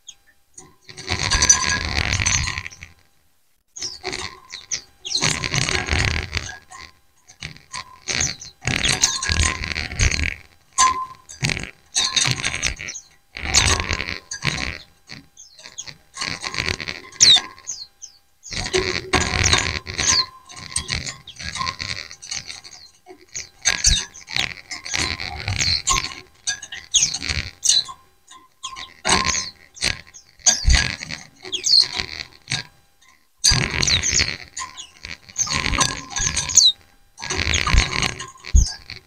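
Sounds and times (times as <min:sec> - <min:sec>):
birds chirping: 0:00.0 - 0:03.0, 0:03.7 - 0:39.0.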